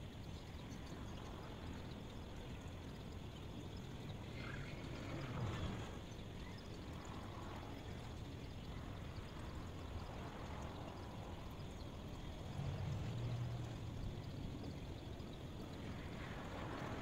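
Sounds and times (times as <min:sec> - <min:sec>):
low rumbling hiss: 0:00.0 - 0:17.0.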